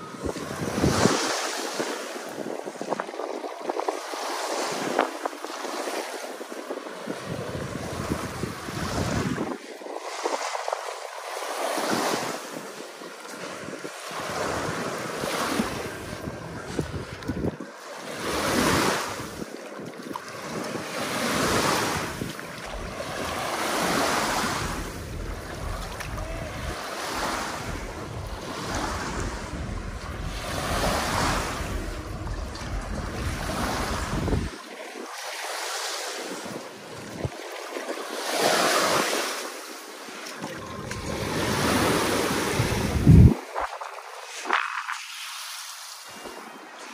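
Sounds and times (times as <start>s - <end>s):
wind rumbling on microphone: 0.0s - 35.7s, 36.3s - 39.5s, 40.4s - 45.4s
sea waves breaking on shore: 0.0s - 46.9s.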